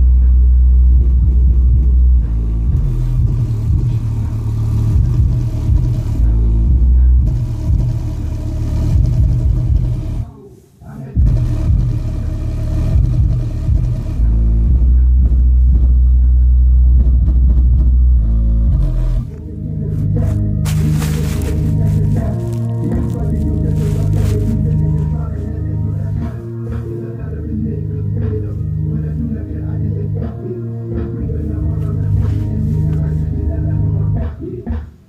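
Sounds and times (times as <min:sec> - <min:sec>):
heavy bass: 0:00.0 - 0:10.3, 0:11.2 - 0:34.9
rapped vocals: 0:00.0 - 0:35.0.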